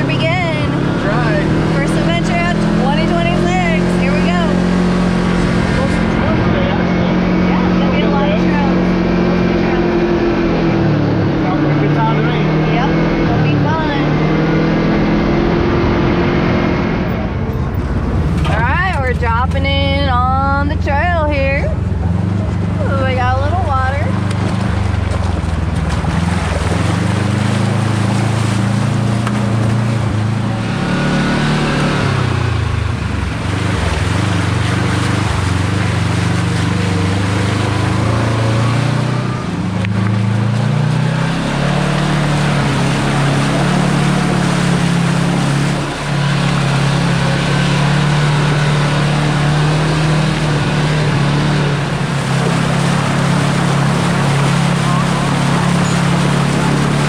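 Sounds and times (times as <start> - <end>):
utility vehicle engine driving: 0.0 - 57.0.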